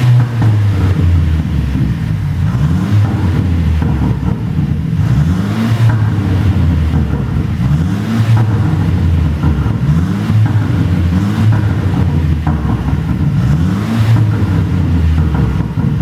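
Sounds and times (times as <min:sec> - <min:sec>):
car engine blipped: 0:00.0 - 0:16.0
exhaust pops: 0:00.0 - 0:16.0.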